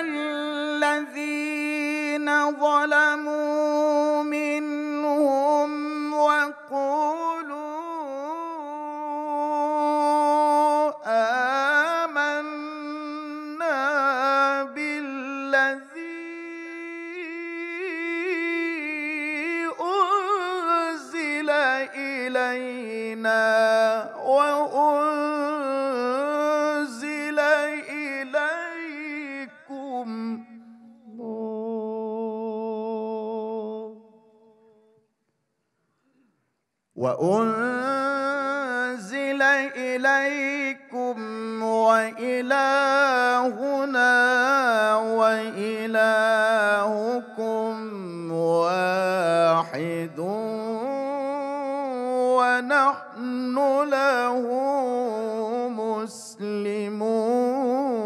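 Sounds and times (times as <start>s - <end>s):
man reciting melodically: 0.0s - 34.8s, 37.0s - 58.0s.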